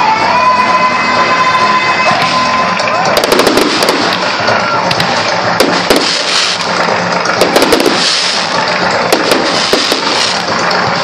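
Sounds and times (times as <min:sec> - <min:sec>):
continuous rumbling roar: 0:00.0 - 0:11.0
fireworks bangs and crackles: 0:02.1 - 0:11.0.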